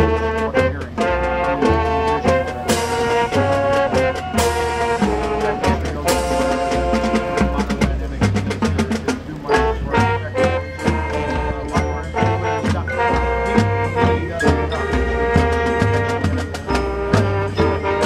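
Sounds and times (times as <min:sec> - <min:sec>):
marching band brass: 0:00.0 - 0:18.0
marching percussion: 0:00.0 - 0:18.0.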